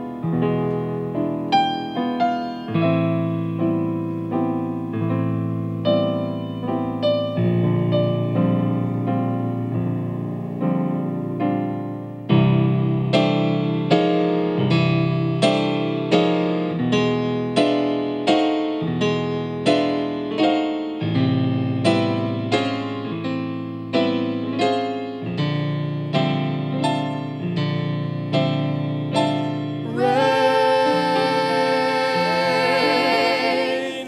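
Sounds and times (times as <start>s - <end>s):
piano playing chords: 0.0s - 34.0s.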